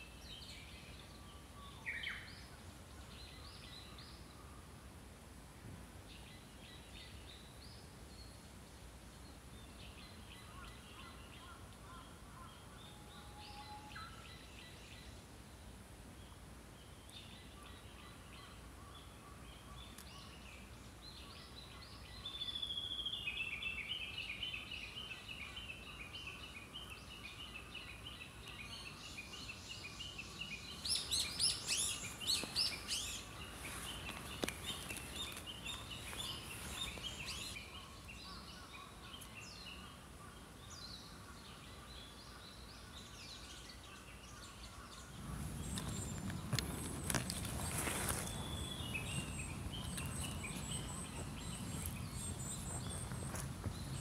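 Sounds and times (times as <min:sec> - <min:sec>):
faint steady hiss: 0:00.0 - 0:54.0
small songbirds calling: 0:09.2 - 0:54.0.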